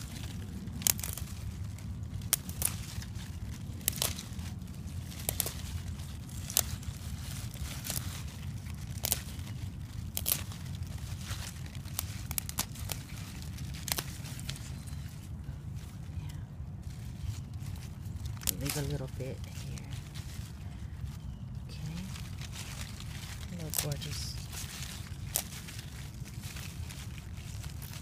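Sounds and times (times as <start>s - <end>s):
leaves rustling and crackling: 0.0s - 28.0s
low rumble: 0.0s - 28.0s.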